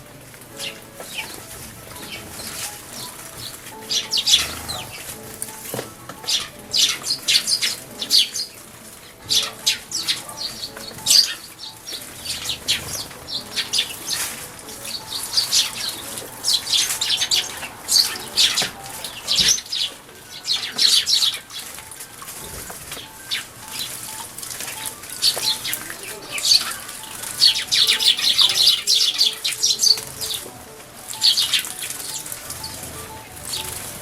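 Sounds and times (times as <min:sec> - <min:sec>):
sparrows chirping: 0:00.5 - 0:34.0
wings fluttering and splashing: 0:00.6 - 0:30.5.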